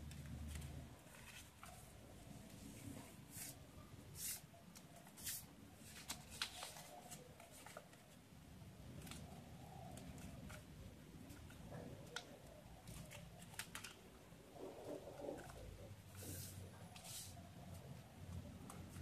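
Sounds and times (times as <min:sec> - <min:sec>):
paper rustling and crinkling: 0:00.0 - 0:03.6, 0:04.2 - 0:08.3, 0:08.9 - 0:19.0.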